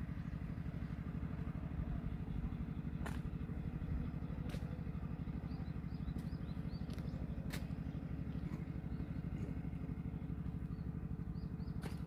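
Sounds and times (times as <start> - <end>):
low engine throbbing: 0.0 - 12.0.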